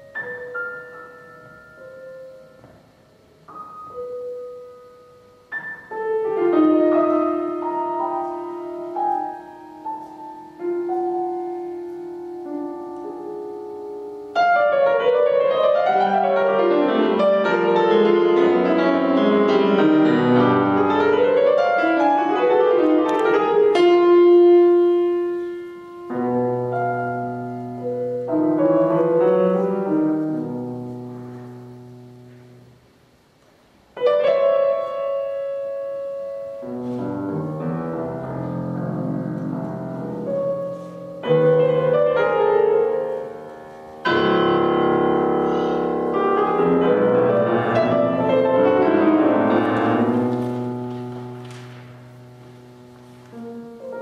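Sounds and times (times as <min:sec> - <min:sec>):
classical piano piece: 0:00.0 - 0:54.0.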